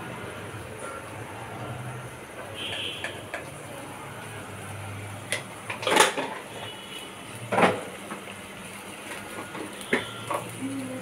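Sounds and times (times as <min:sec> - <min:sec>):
chillies frying in hot oil: 0:00.0 - 0:11.0.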